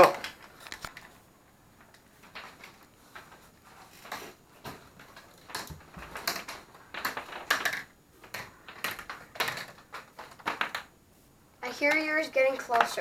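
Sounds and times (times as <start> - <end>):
marbles rolling and clattering: 1.8 - 10.9, 11.6 - 13.0.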